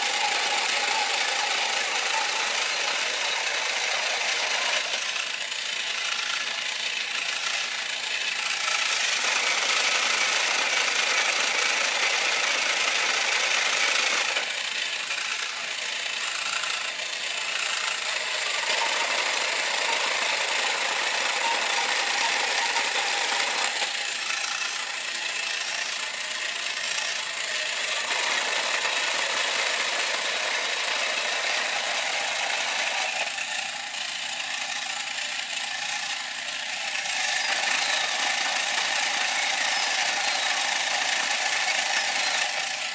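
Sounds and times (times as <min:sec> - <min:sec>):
toy robot motor and gears whirring: 0:00.0 - 0:42.9.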